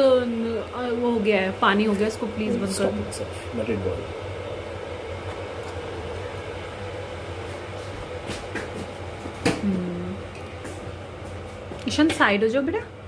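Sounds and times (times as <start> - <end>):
electric kettle boiling: 0.0 - 13.0.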